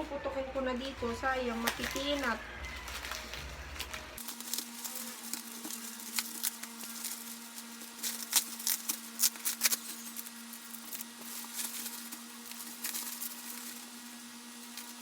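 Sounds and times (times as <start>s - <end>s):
bubble wrap crinkling: 0.8s - 15.0s.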